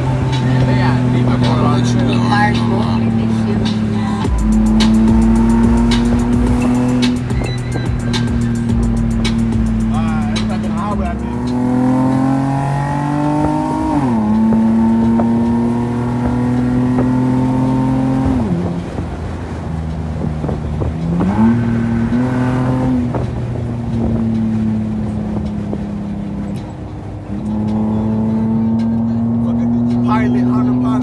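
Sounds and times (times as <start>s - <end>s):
car engine with loud exhaust: 0.0s - 31.0s.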